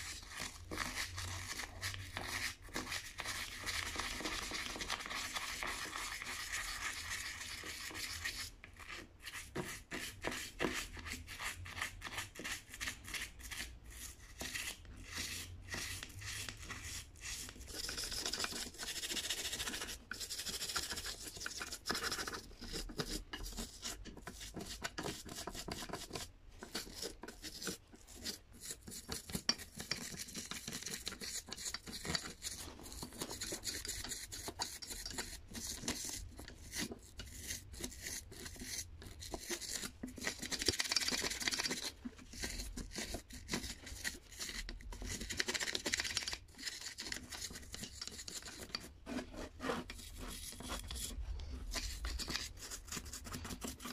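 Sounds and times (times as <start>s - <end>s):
toothbrush scrubbing metal: 0.0s - 53.9s.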